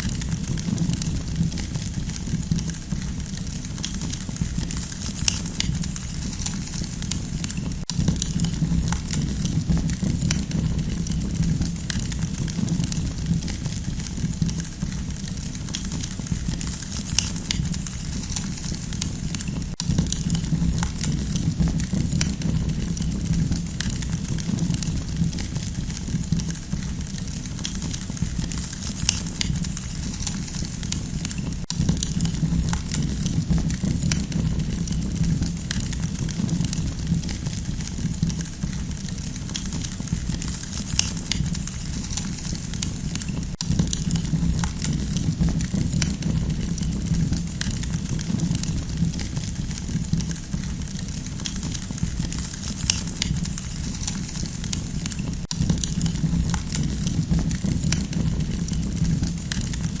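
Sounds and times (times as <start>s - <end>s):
campfire crackling and popping: 0.0s - 60.0s
low rumbling hiss of fire: 0.0s - 60.0s.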